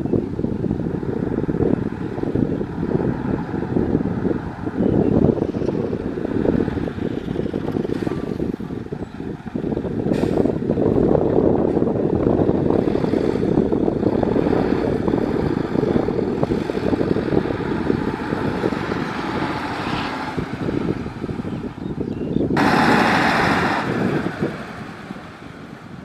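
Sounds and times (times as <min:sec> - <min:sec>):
heavy diesel machinery rumbling: 0:00.0 - 0:26.0.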